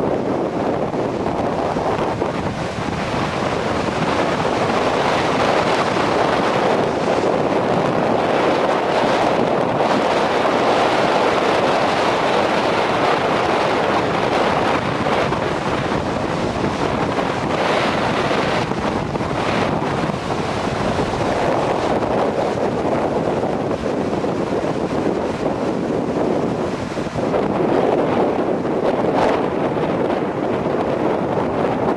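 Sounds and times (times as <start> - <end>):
gusty wind buffeting microphone: 0.0 - 31.9
surf breaking on shore: 0.0 - 31.9.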